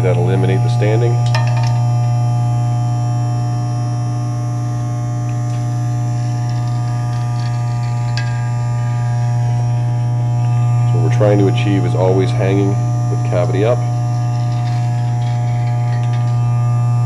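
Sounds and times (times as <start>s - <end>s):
vibratory feeder humming: 0.0s - 17.0s.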